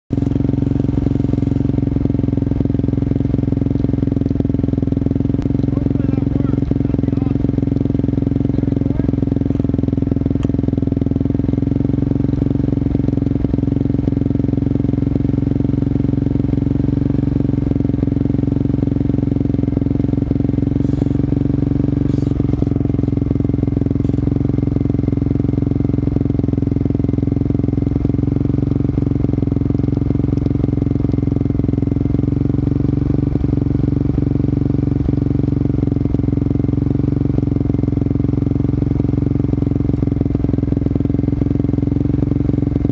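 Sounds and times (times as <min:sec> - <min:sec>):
atv engine idling: 0:00.1 - 0:42.9.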